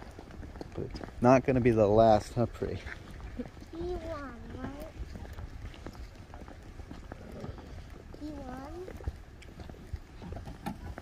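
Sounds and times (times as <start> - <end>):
footsteps on pavement: 0.0 - 11.0.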